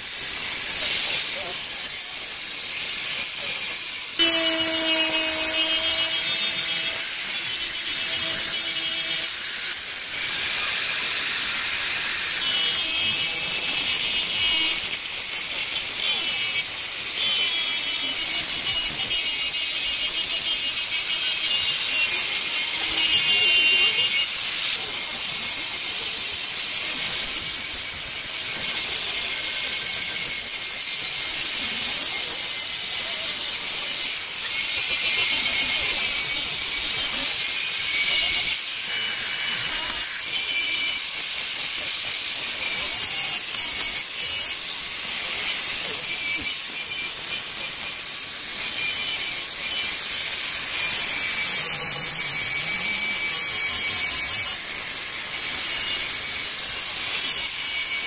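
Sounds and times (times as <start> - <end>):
angle grinder polishing stone: 0.0 - 58.0.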